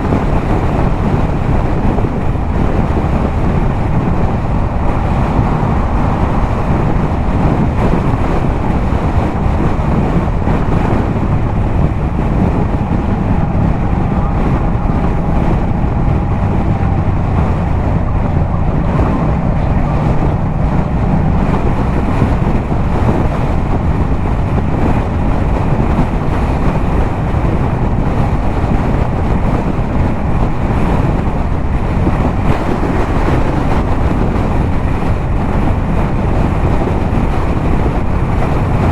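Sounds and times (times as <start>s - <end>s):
motorcycle engine cruising: 0.0s - 38.9s
wind rushing over microphone: 0.0s - 38.9s.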